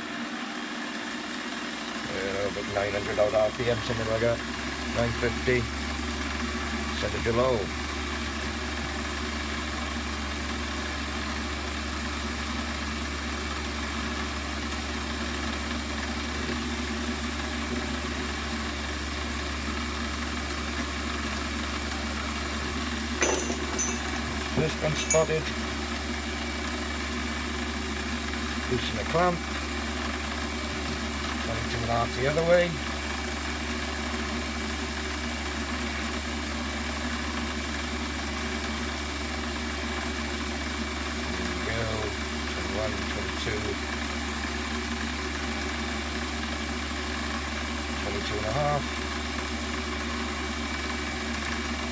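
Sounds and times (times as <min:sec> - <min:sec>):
lathe running hum: 0:00.0 - 0:51.9.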